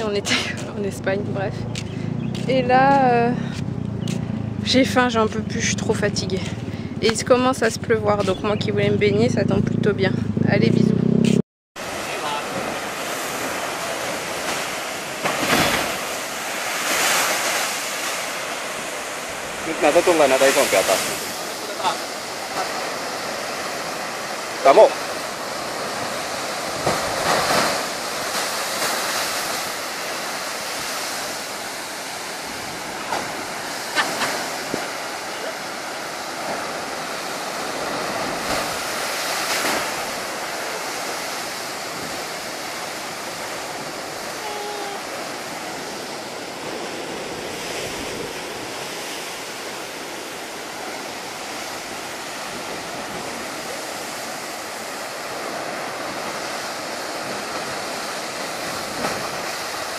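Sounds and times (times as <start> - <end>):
ocean surf breaking on rocks: 11.8 - 59.9.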